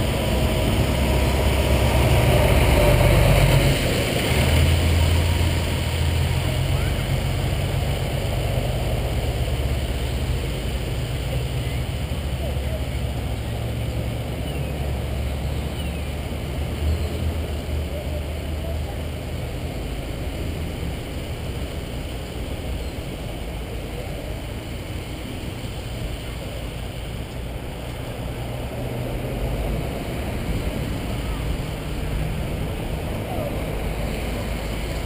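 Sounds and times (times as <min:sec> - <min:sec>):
vehicles driving past: 0:00.0 - 0:35.0.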